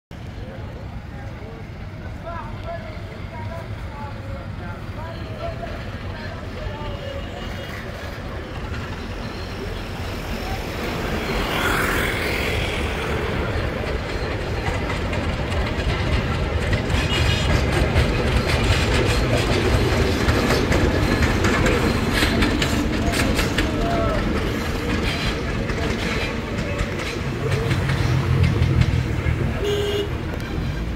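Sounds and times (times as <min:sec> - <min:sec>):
diesel locomotive engine rumble: 0:00.1 - 0:30.9
wheels clattering over rail joints: 0:02.0 - 0:30.9.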